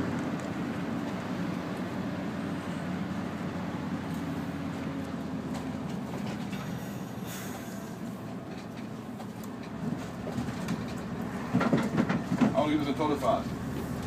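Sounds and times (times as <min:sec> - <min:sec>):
coach engine drone: 0:00.0 - 0:14.0
road noise: 0:00.0 - 0:14.0.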